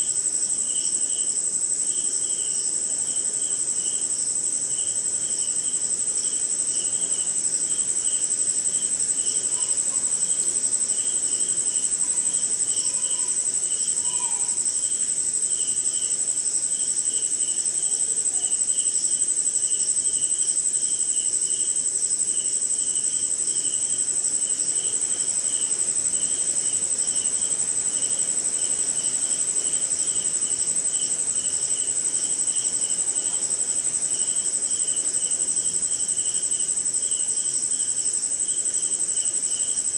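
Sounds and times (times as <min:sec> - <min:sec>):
crickets trilling: 0:00.0 - 0:39.9
insect chirping in a pulse: 0:00.0 - 0:39.9.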